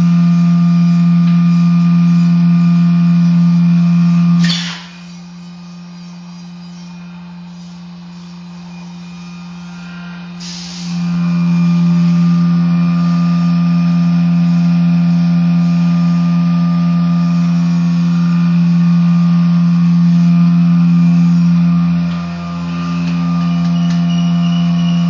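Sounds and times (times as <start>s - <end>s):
electric motor humming: 0.0s - 25.0s.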